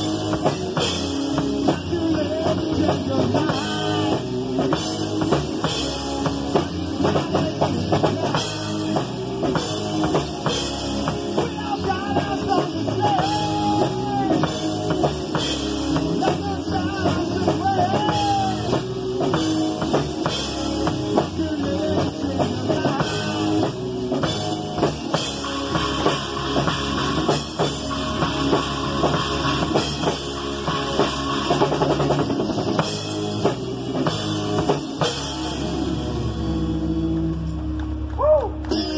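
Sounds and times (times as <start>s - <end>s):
drum kit steady beat: 0.0s - 37.8s
rock band playing: 0.0s - 38.9s.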